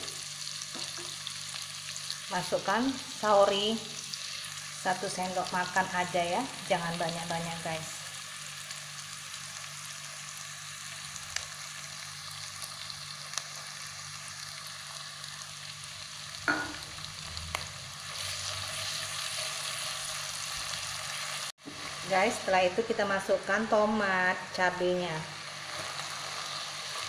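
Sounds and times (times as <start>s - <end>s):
onions sizzling in hot oil: 0.0s - 23.3s, 24.0s - 27.0s.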